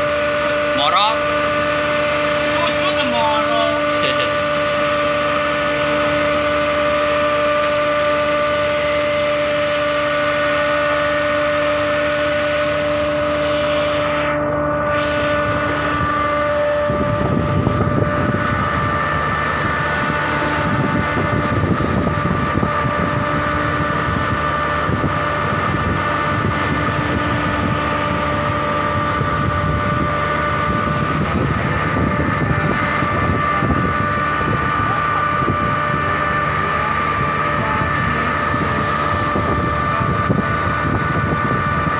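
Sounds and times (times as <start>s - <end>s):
boat engine running steadily: 0.0s - 41.9s.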